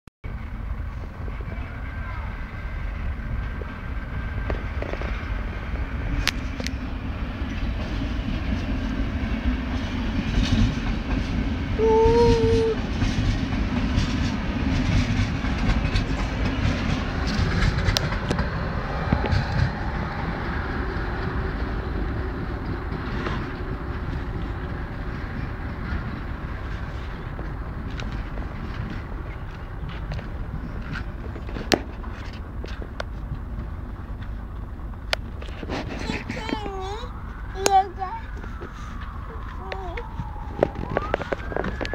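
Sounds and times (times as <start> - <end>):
train wheels rumbling over rail joints: 0.3 - 41.9.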